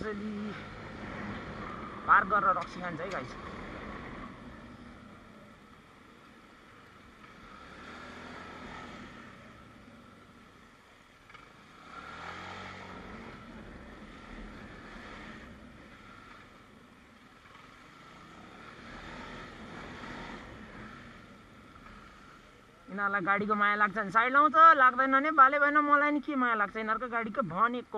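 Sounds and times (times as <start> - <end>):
passing vehicle engine: 0.0 - 25.1
traffic passing: 0.0 - 27.9.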